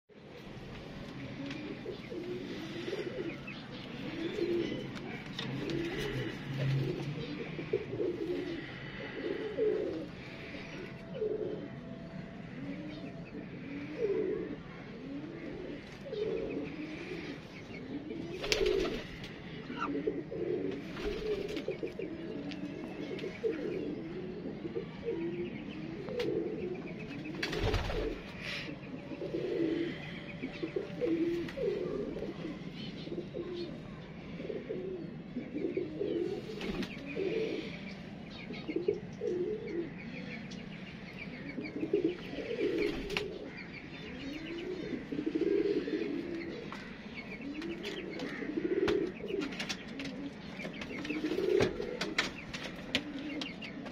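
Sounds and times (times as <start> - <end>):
pigeons cooing: 0.1 - 53.9
small birds chirping faintly: 0.1 - 53.9.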